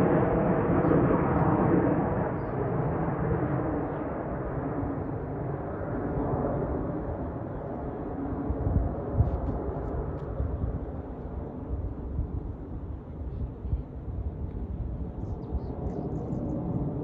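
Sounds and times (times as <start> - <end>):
jet engine rumbling overhead: 0.0 - 17.0.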